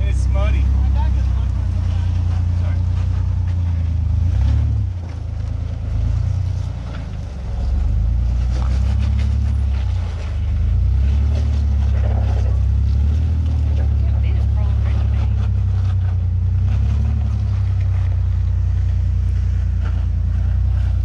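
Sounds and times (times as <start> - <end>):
suv engine droning: 0.0 - 21.0.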